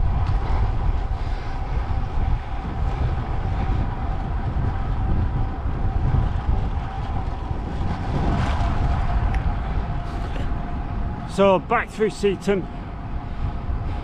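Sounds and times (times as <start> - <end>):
bike road noise rumble: 0.0 - 14.0
wind buffeting microphone: 0.0 - 14.0.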